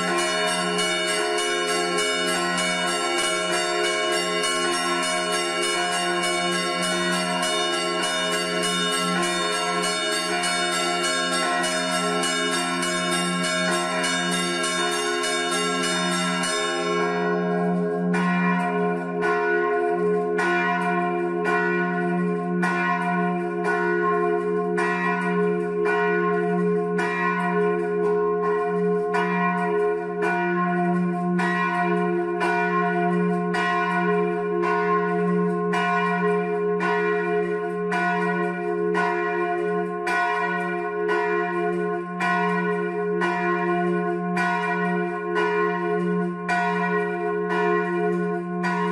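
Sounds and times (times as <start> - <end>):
bells struck by hammers: 0.0 - 48.9.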